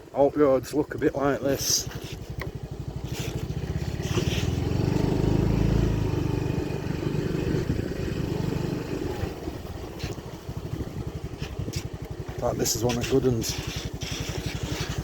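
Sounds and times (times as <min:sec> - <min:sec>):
scooter engine running: 0:00.9 - 0:15.0.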